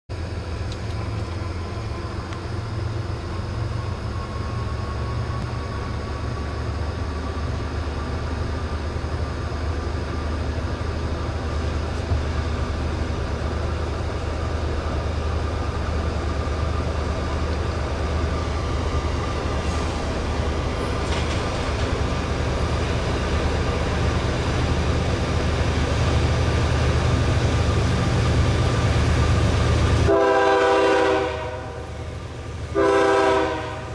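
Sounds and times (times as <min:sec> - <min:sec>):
diesel locomotive rumble: 0:00.1 - 0:33.9.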